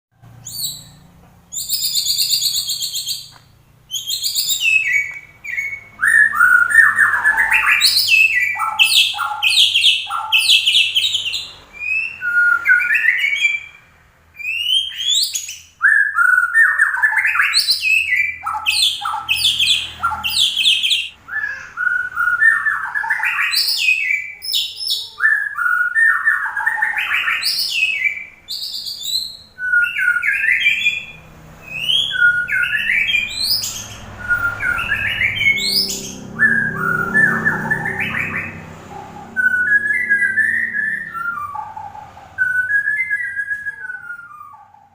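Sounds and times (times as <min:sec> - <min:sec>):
bird singing whistles and trills: 0:00.4 - 0:44.9.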